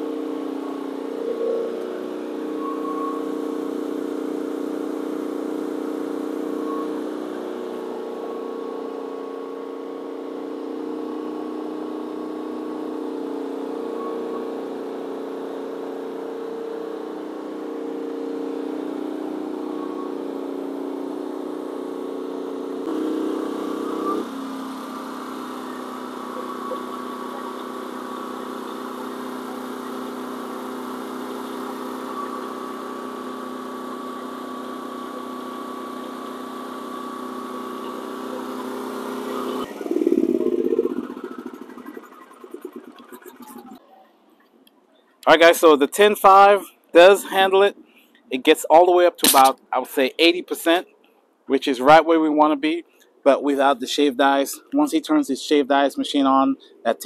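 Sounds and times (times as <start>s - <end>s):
generator running: 0.0s - 43.8s, 45.2s - 50.8s.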